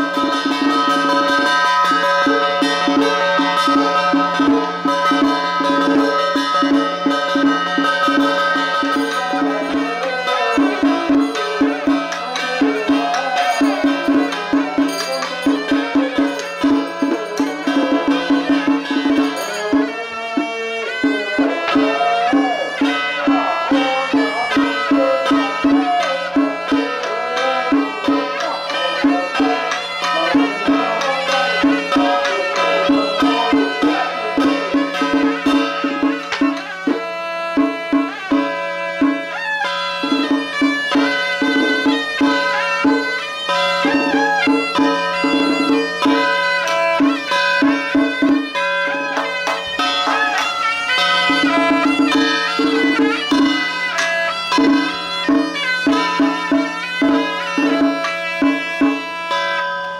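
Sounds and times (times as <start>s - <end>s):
reedy melodic line: 0.0s - 59.9s.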